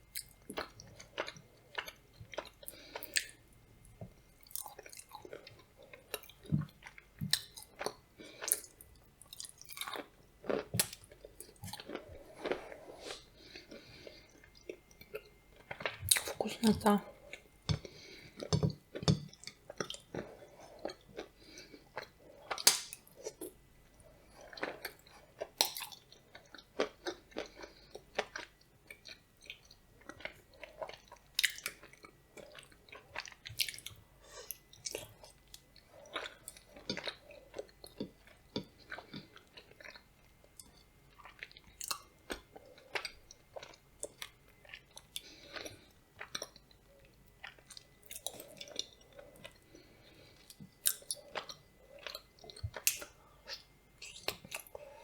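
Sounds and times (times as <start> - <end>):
soft wet chewing: 0.1 - 55.0.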